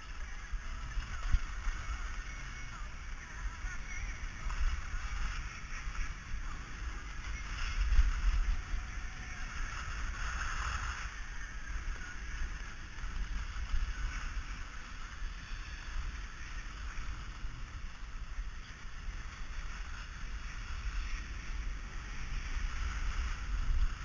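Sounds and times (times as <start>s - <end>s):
skis sliding on snow: 0.0s - 24.0s.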